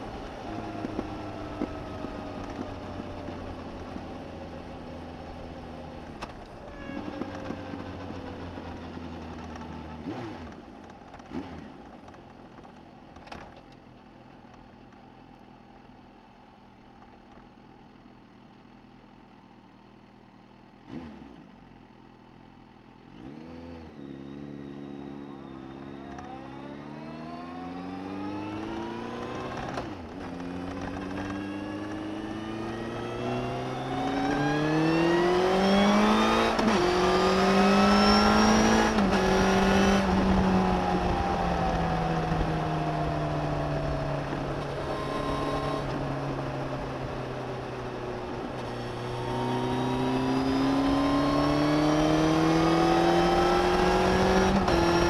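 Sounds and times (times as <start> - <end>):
motorcycle engine revving: 0.0 - 12.7, 20.8 - 21.9, 23.0 - 55.0.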